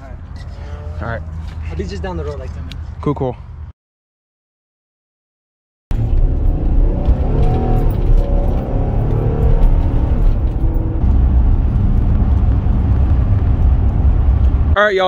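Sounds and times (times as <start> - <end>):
car road and engine rumble: 0.0 - 3.7, 5.9 - 15.0.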